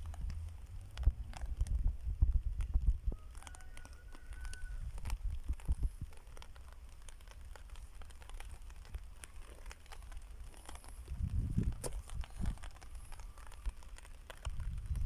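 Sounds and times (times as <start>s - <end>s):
light crackling clicks: 0.0s - 15.0s
wind rumbling on microphone: 0.0s - 15.0s.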